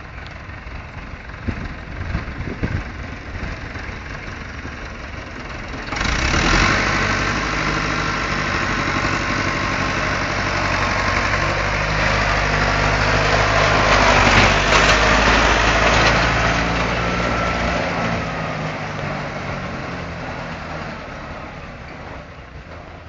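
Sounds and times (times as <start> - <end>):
tractor engine driving past: 0.0 - 23.0.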